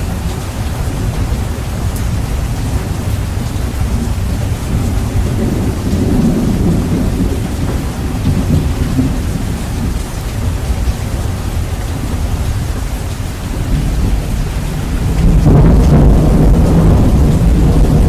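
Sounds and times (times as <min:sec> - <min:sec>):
heavy rain: 0:00.0 - 0:18.0
low thunder rumble: 0:00.0 - 0:18.0.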